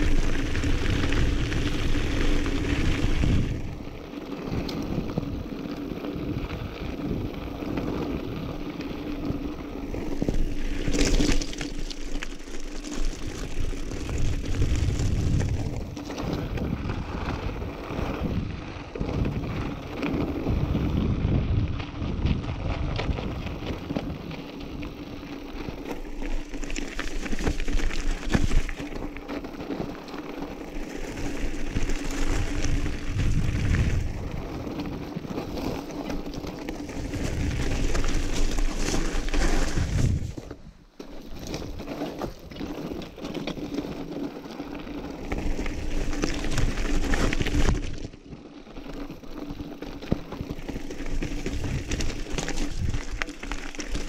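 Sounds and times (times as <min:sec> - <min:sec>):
tyres crunching on stones: 0:00.0 - 0:18.3, 0:22.8 - 0:54.0
bike rattling: 0:00.0 - 0:54.0.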